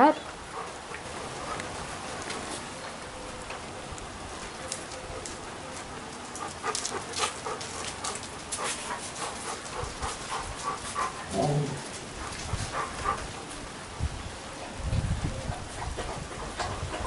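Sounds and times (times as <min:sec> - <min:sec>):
rain hissing and dripping: 0:00.0 - 0:17.0.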